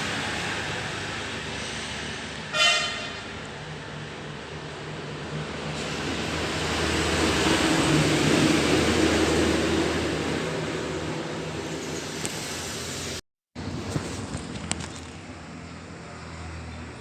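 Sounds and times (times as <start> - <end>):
passing vehicle engine: 0.0 - 17.0.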